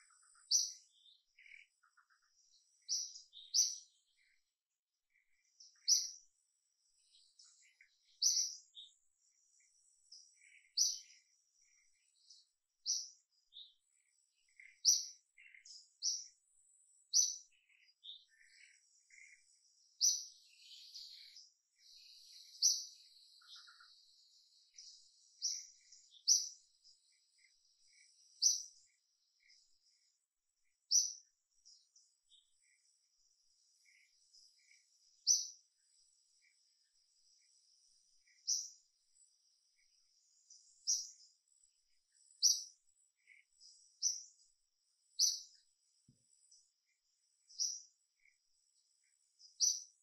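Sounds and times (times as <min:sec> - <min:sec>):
faint bird chirps: 0:00.0 - 0:50.0.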